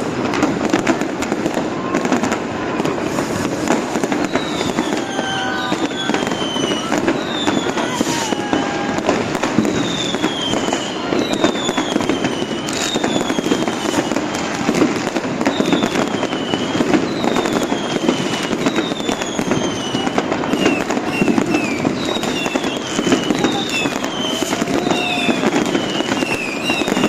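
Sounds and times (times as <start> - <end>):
firecrackers banging and crackling: 0.0 - 27.0
whistling rockets: 0.0 - 27.0.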